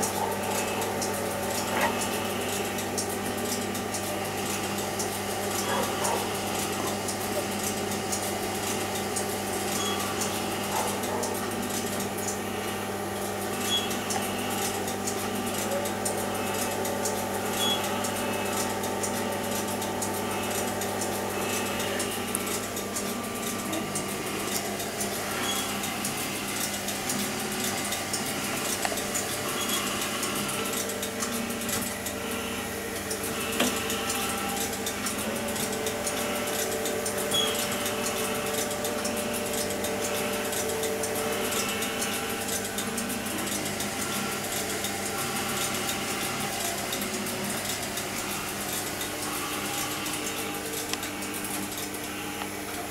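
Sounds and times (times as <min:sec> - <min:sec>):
electrical equipment hum: 0:00.0 - 0:52.9.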